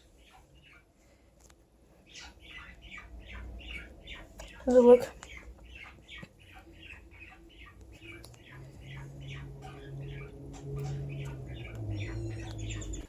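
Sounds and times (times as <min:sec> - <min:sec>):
bird chirping: 0:00.0 - 0:13.0
low steady hum: 0:00.0 - 0:13.0.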